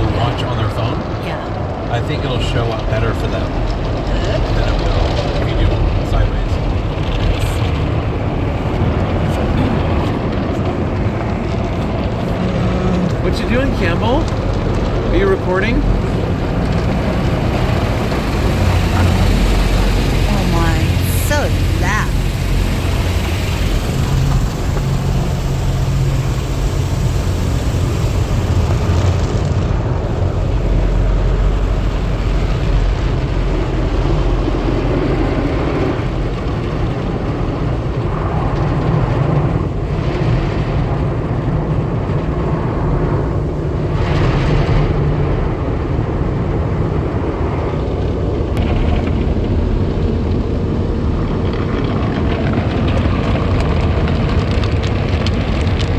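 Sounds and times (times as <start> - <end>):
car wash machinery rushing: 0.0 - 55.9.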